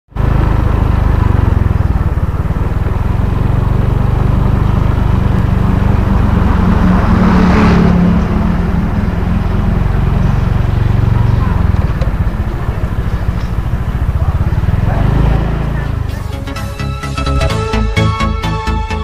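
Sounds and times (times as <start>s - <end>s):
vehicle engine humming: 0.0s - 19.0s
rush of road noise: 0.1s - 17.8s.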